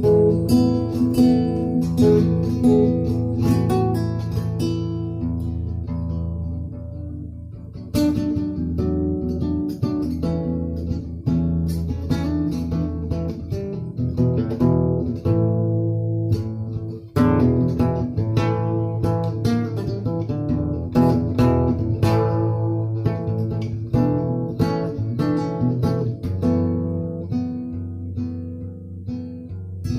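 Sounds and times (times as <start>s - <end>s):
acoustic guitar music: 0.0s - 29.9s.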